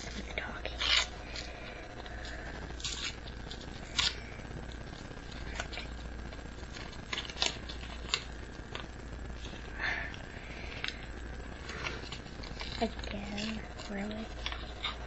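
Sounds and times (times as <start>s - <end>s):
trading cards rustling: 0.0s - 15.0s.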